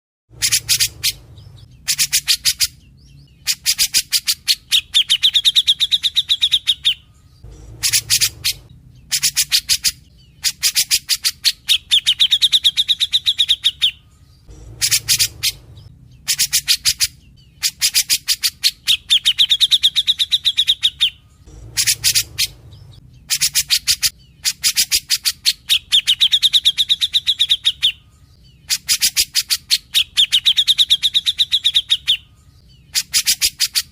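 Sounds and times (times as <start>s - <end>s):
bird singing chattering phrase: 0.3s - 33.9s.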